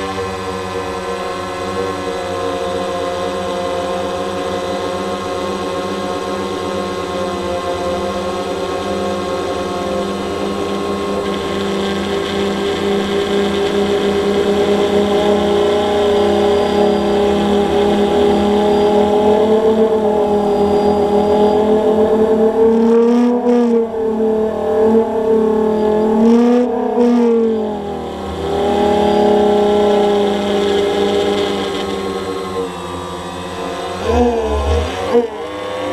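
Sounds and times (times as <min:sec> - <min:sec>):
drone propellers whirring: 0:00.0 - 0:35.9.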